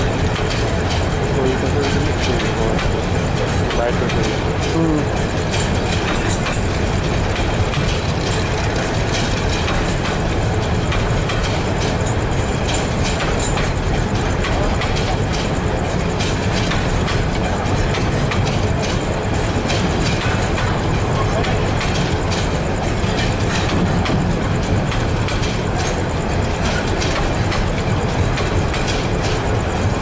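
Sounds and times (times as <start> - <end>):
steel wheels rumbling on rails: 0.0 - 30.0
wheels clacking over rail joints: 0.0 - 30.0.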